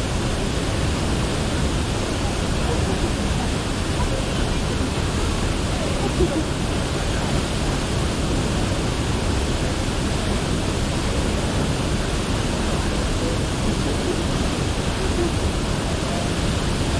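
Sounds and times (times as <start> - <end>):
rushing water: 0.0 - 16.9.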